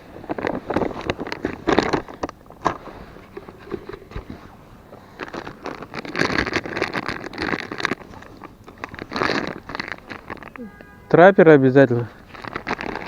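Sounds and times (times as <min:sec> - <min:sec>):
rustling dry bait in plastic packet: 0:00.0 - 0:10.6, 0:12.1 - 0:13.0.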